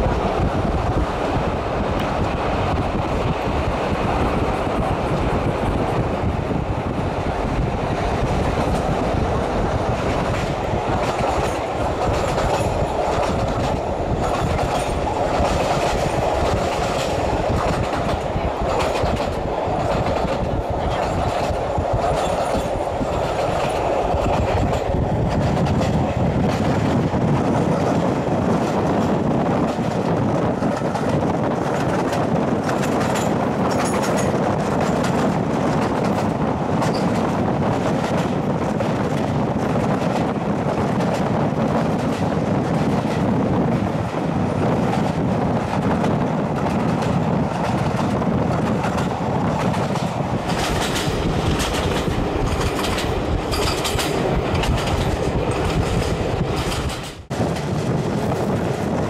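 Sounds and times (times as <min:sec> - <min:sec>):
clickety-clack of rail joints: 0:00.0 - 0:59.0
train wheels rumbling on rails: 0:00.0 - 0:59.0.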